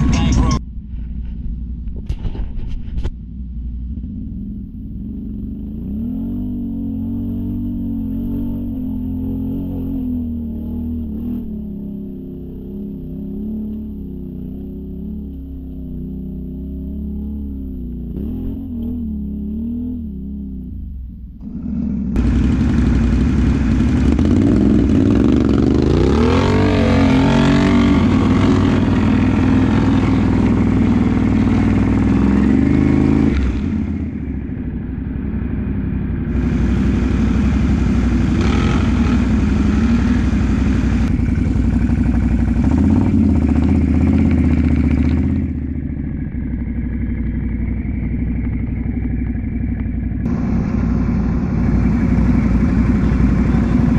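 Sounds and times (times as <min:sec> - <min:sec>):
atv engine revving: 0:03.7 - 0:53.9.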